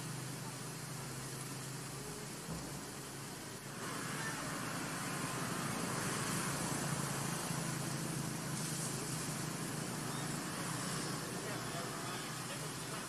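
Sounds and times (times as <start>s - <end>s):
constant hiss: 0.0s - 13.0s.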